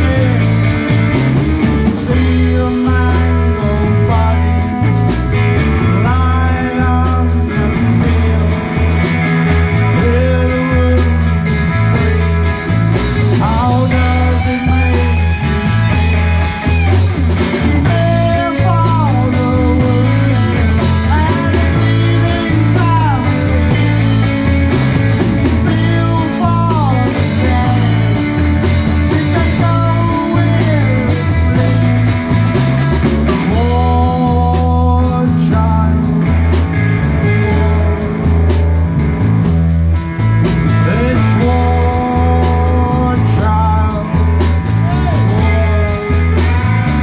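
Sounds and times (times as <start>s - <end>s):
drums: 0.0s - 47.0s
electric guitar bending notes: 0.0s - 47.0s
heavy bass line: 0.0s - 47.0s.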